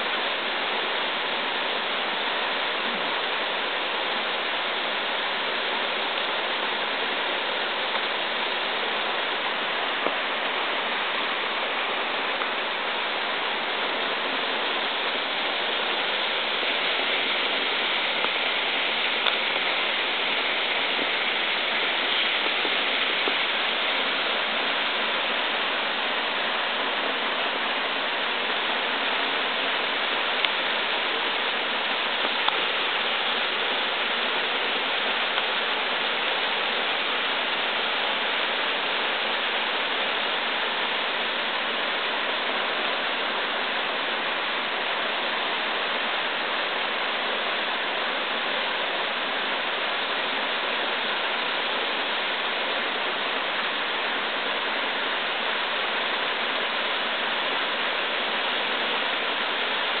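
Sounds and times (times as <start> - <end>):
waterfall splashing onto rocks: 0.0 - 60.0.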